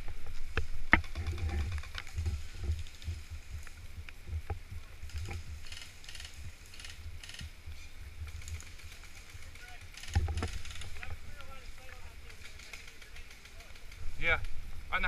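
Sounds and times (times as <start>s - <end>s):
faint ticks: 0.2s - 14.6s.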